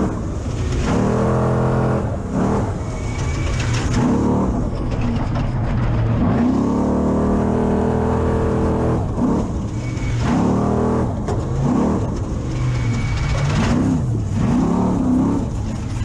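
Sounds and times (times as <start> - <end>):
road noise rumble: 0.0 - 16.0
truck engine revving: 0.0 - 16.0.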